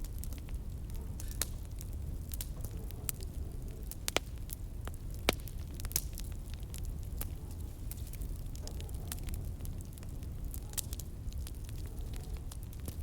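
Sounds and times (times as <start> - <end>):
fire pops and snaps: 0.0 - 13.0
low fire rumble: 0.0 - 13.0
wood fire crackling: 0.0 - 13.0.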